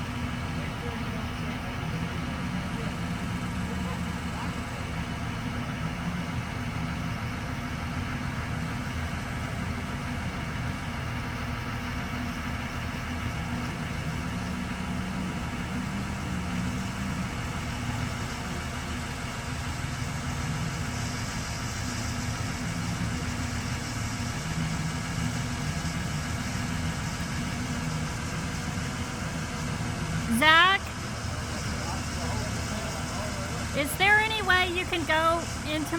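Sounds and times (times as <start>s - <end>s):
large engine idling: 0.0s - 35.9s.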